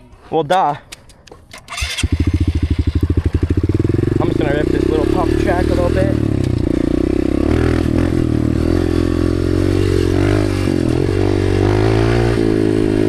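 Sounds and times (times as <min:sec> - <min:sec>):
dirt bike engine revving: 0:01.7 - 0:13.0.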